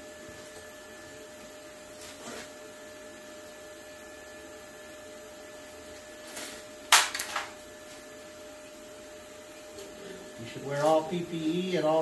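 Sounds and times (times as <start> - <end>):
electrical hum with whine: 0.0 - 12.0
fan hiss: 0.0 - 12.0.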